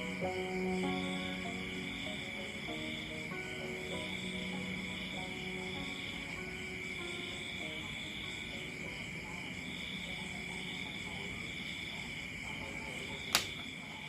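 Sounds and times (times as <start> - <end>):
high-pitched insect drone: 0.0 - 13.8.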